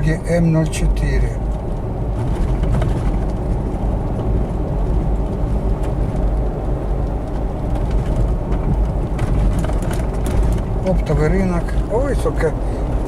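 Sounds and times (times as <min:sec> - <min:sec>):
car driving on highway: 0:00.0 - 0:13.0.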